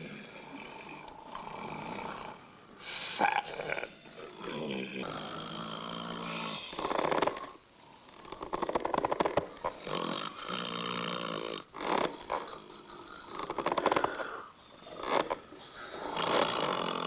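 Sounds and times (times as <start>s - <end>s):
rattling snore: 0.0s - 2.7s, 3.5s - 17.0s.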